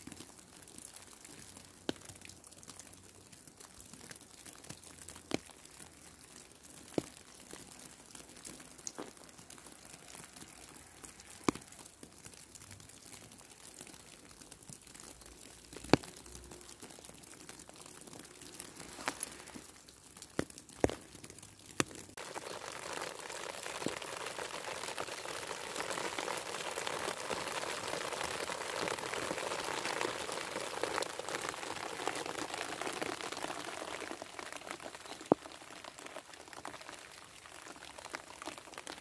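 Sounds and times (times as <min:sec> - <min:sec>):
faint steady hiss: 0:00.0 - 0:39.0.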